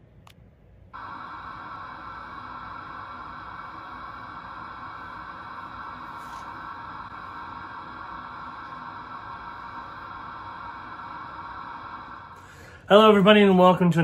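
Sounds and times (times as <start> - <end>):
faint steady tones: 0.0 - 13.8
static hiss: 1.0 - 13.4.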